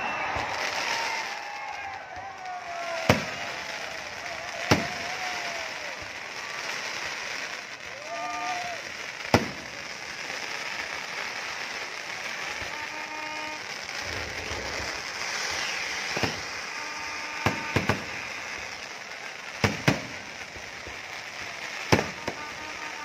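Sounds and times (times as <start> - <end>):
fireworks bangs: 0.0 - 23.0
crackling background noise: 0.1 - 23.0.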